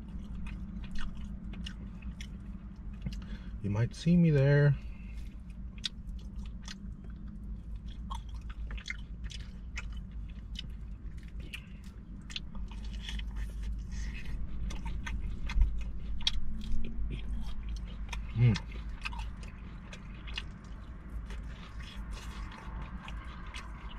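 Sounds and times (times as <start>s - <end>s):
chewing crunchy food: 0.0s - 23.9s.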